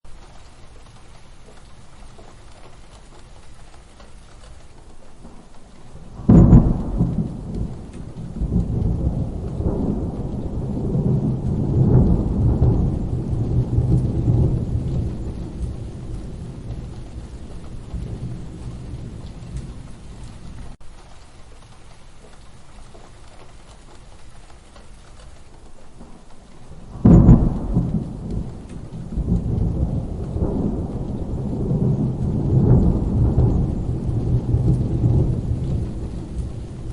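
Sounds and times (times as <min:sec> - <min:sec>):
steady rain: 0:00.0 - 0:36.9
thunderclaps: 0:00.1 - 0:36.9.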